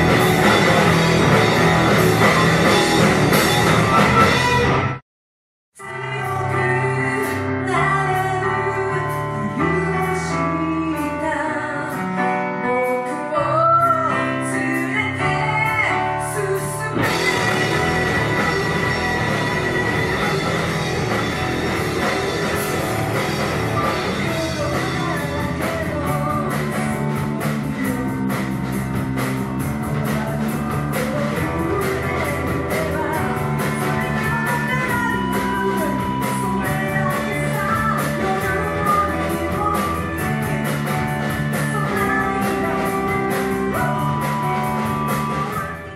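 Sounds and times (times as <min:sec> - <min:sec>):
rock band playing: 0:00.0 - 0:05.0, 0:05.8 - 0:45.9
woman singing: 0:05.8 - 0:20.8, 0:22.2 - 0:45.9.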